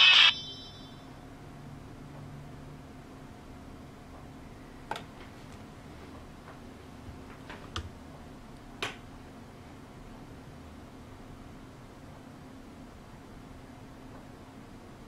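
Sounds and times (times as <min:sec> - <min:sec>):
faint steady hum and hiss: 0:00.0 - 0:15.0.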